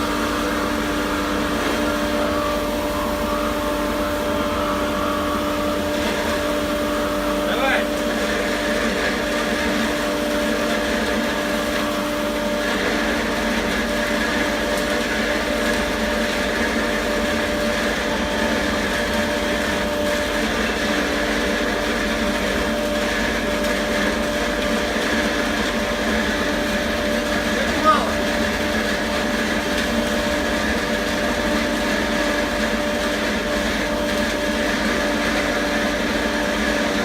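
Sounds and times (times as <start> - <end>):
blower motor drone: 0.0 - 37.0.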